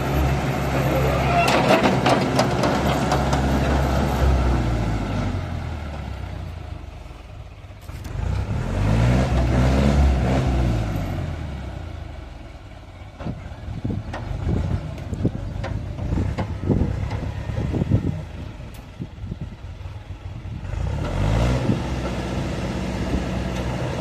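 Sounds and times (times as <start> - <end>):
excavator diesel engine revving: 0.0 - 24.0.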